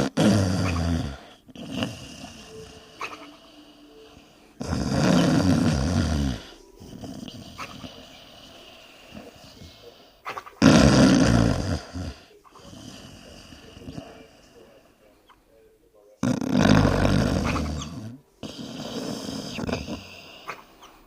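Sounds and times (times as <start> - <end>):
faint breathing: 0.0 - 10.4, 11.6 - 15.5, 16.4 - 21.0
dog snoring: 0.0 - 14.5, 16.2 - 21.0.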